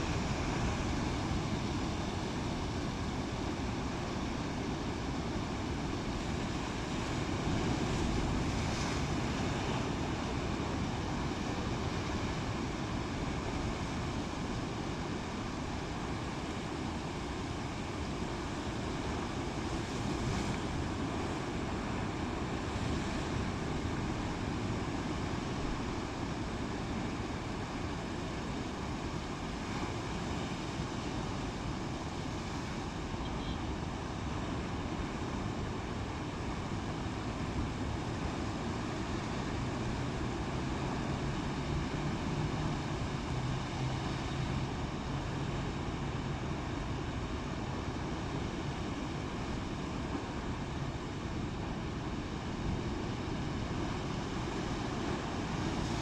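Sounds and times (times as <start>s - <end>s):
waves rushing: 0.0s - 56.0s.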